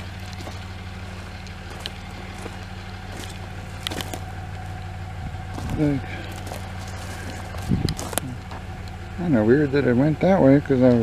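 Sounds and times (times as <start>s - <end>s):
footsteps on dry dirt: 0.0s - 9.0s
pickup truck idling: 0.0s - 11.0s.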